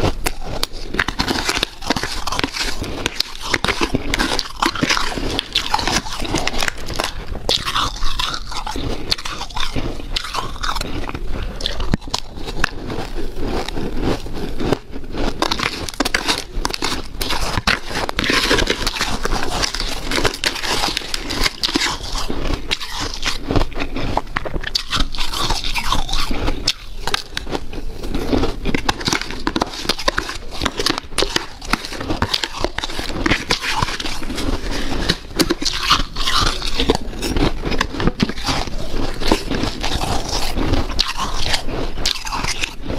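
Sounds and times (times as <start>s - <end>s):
crunching ice being chewed: 0.0s - 42.9s.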